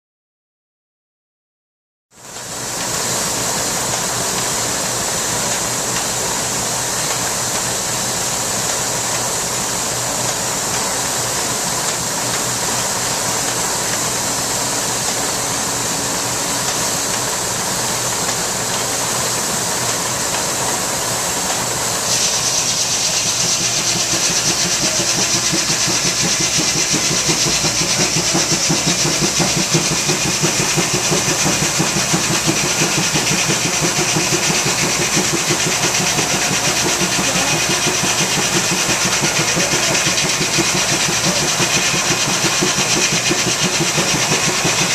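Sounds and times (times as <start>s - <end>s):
steam engine hissing: 2.4s - 44.9s.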